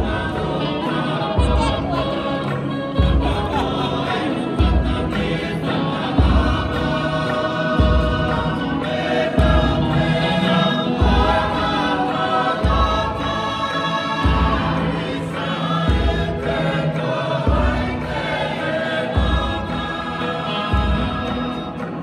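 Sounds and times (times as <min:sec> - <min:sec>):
group singing in harmony: 0:00.0 - 0:22.0.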